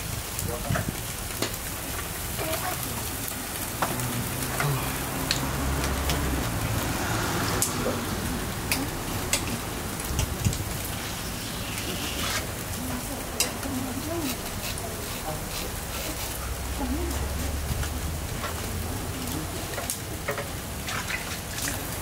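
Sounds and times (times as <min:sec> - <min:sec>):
fish sizzling over charcoal: 0:00.0 - 0:22.0.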